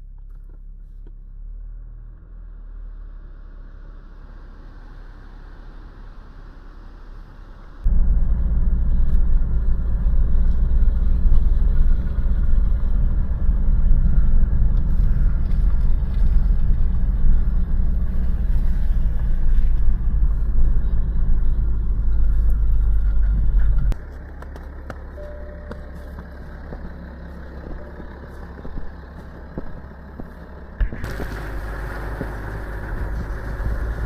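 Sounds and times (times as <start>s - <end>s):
loud low rumble: 4.3s - 34.0s.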